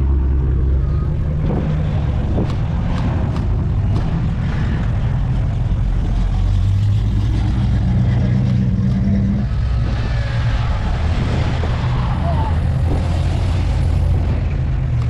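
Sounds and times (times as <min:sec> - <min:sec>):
car engine rumbling past: 0:00.0 - 0:15.0
street noise: 0:00.0 - 0:15.0.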